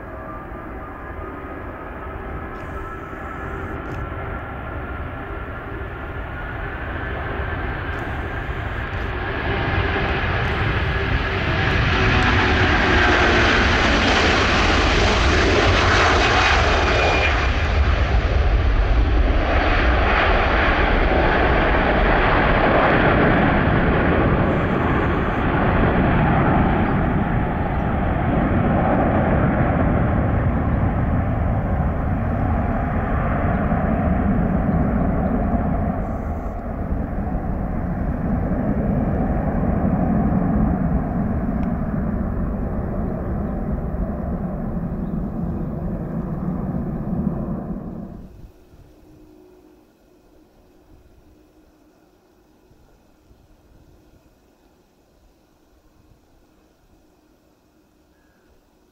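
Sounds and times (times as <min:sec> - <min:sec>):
jet engine roar at takeoff: 0:00.0 - 0:58.9.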